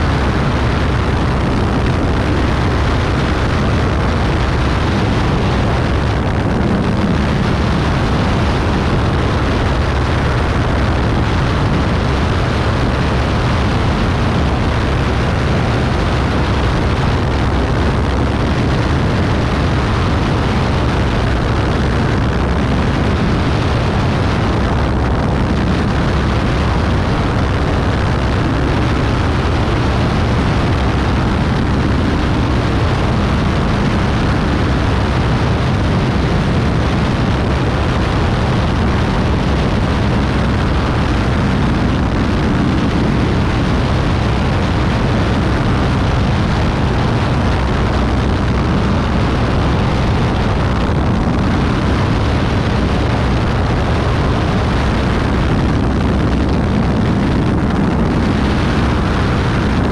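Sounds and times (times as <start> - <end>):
propeller plane engine drone: 0.0 - 59.9
rushing air: 0.0 - 59.9.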